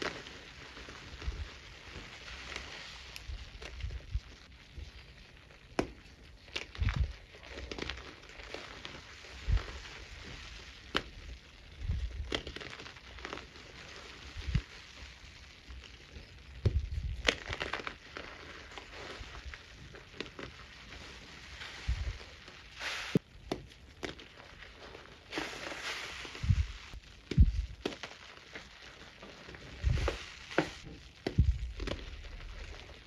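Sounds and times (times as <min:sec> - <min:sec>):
chalk crumbling crackle: 0:00.0 - 0:33.0.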